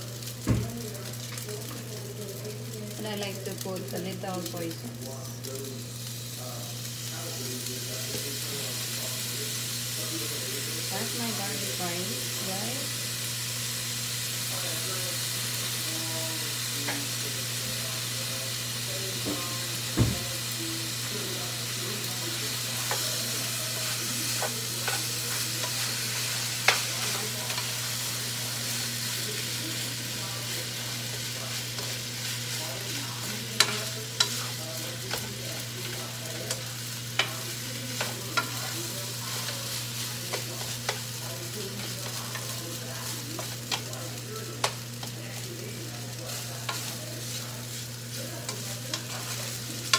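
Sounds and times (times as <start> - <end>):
rice sizzling in a pan: 0.0 - 49.9.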